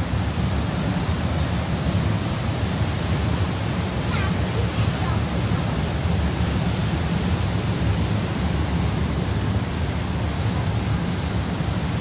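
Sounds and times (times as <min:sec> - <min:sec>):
propeller wake churning: 0:00.0 - 0:12.0.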